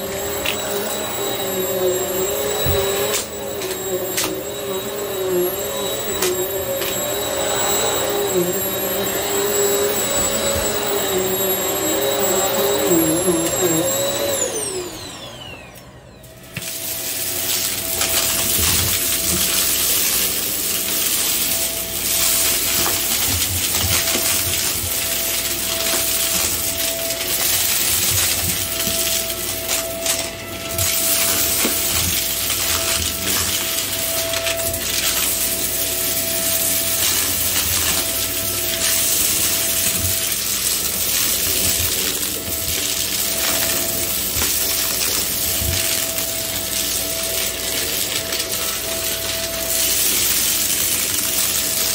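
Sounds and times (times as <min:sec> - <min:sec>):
vacuum cleaner motor winding down: 0:00.0 - 0:51.9
vacuum cleaner running on carpet: 0:00.0 - 0:51.9.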